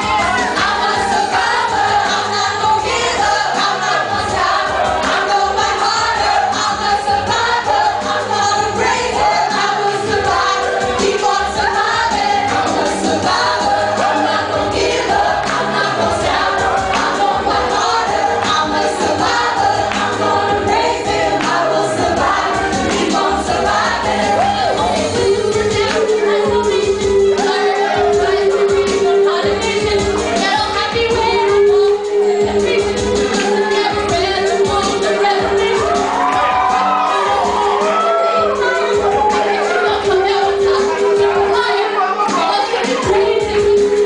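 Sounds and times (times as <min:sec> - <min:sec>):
backing track with bass line: 0:00.0 - 0:44.0
people singing into microphones: 0:00.0 - 0:44.0.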